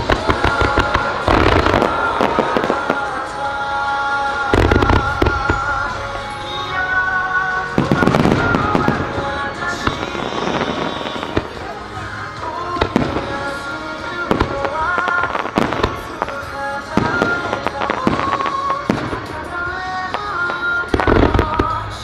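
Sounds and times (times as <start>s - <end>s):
fireworks banging and crackling: 0.0s - 22.0s
melodic music: 0.0s - 22.0s.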